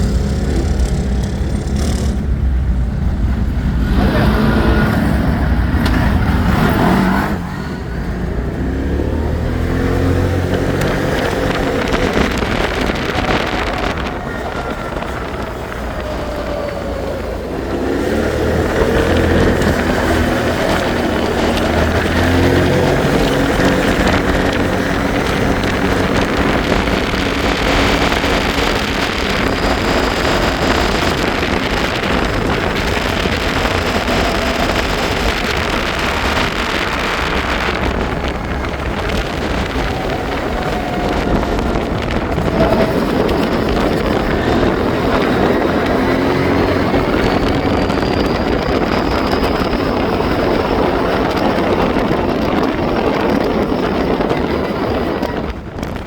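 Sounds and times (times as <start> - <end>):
atv engine running: 0.0 - 56.0
wind buffeting microphone: 0.0 - 56.0.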